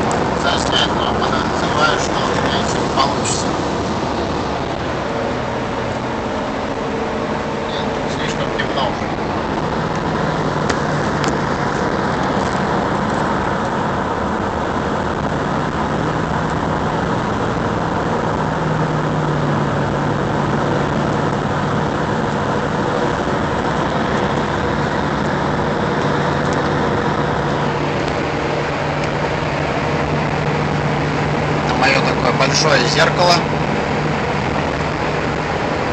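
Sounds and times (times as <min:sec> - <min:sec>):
constant low hum: 0:00.0 - 0:35.9
vehicle cabin road noise: 0:00.0 - 0:35.9.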